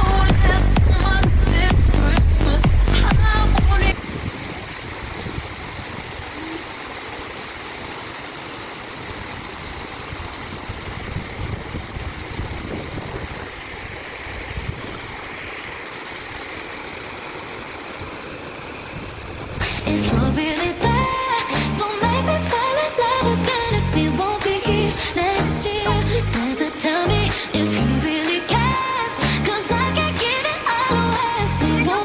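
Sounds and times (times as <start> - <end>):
river water flowing: 0.0 - 32.0.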